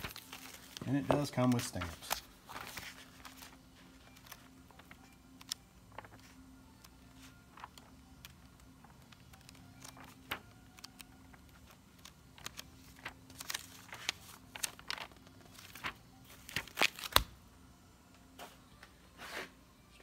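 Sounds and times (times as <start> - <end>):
paper pages flipping: 0.0 - 17.4.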